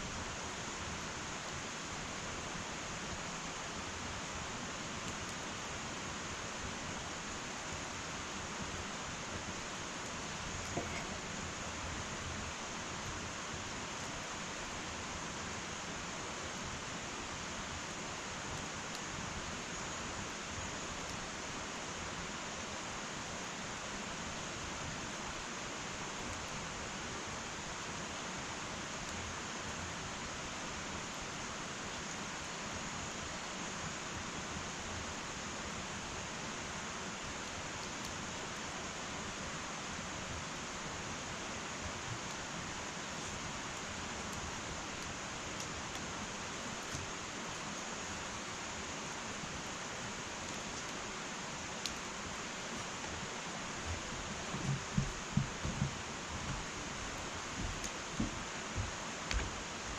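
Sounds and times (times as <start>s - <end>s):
faint fire crackles: 0.0s - 59.9s
wood fire hissing: 0.0s - 59.9s.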